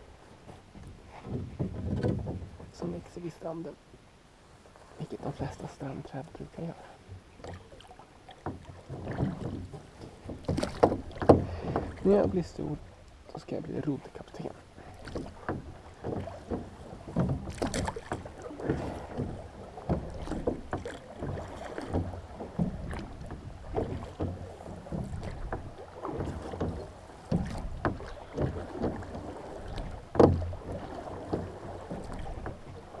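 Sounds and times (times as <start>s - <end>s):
oars splashing in water: 0.0s - 3.8s, 4.5s - 33.0s
oars knocking: 0.4s - 3.1s, 5.0s - 33.0s.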